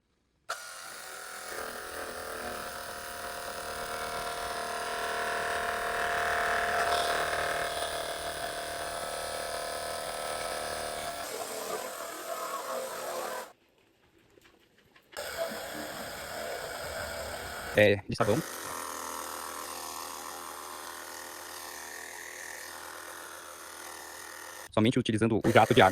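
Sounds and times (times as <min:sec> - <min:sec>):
pressure washer motor whining: 0:00.5 - 0:13.5, 0:15.2 - 0:24.7, 0:25.5 - 0:25.9.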